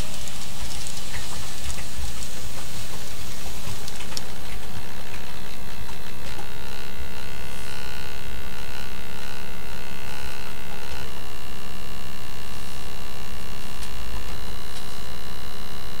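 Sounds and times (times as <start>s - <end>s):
electrical hum and buzz: 0.0s - 16.0s.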